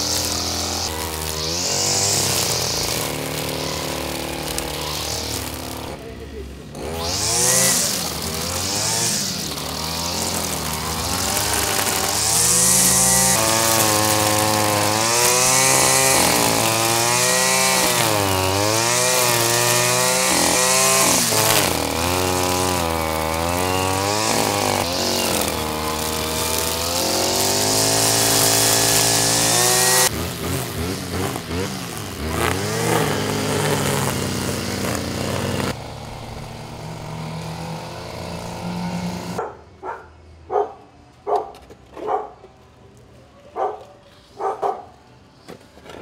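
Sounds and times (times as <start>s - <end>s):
cutting line hissing through grass: 0.0s - 6.0s, 7.0s - 39.4s
brush cutter engine revving: 0.0s - 39.4s.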